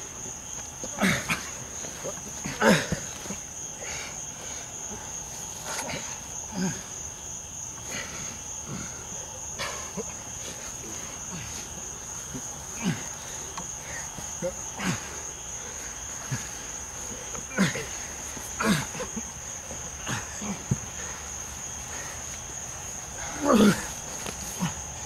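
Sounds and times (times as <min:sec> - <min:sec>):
crickets chirping: 0:00.0 - 0:25.0
people grunting while grappling: 0:00.1 - 0:25.0.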